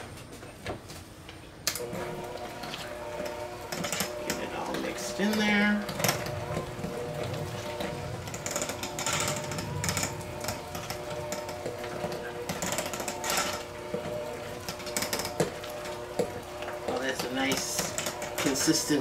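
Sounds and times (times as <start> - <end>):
electric hand mixer running: 1.8 - 19.0.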